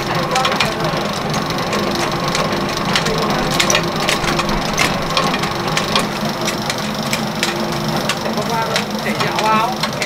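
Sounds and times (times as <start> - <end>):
clicks and rattles: 0.0 - 10.0
small motor humming: 0.0 - 10.0.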